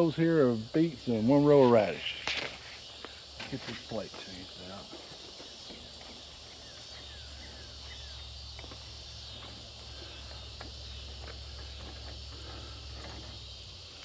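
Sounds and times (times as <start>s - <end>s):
insect chorus buzzing: 0.0s - 14.0s.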